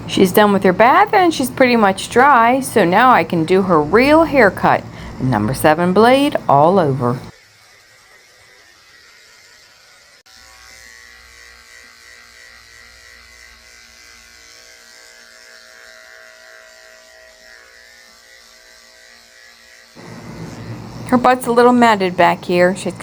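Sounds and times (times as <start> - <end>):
electric clippers humming: 0.0 - 23.0.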